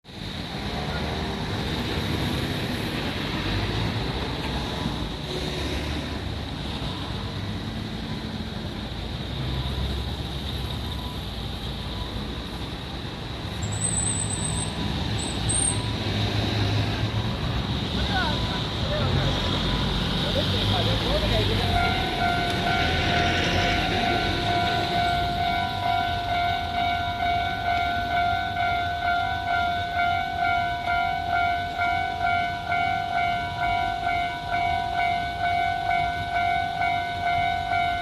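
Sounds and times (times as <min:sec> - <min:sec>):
traffic rumble: 0:00.1 - 0:38.0.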